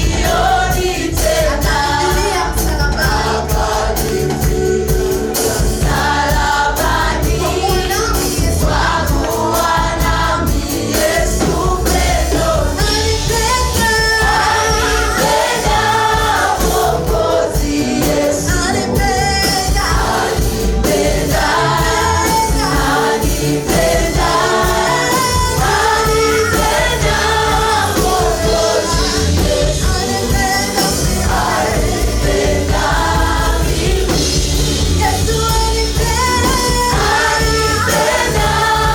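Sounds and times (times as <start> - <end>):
amplified instrumental accompaniment: 0.0 - 38.9
choir singing gospel song: 0.0 - 38.9.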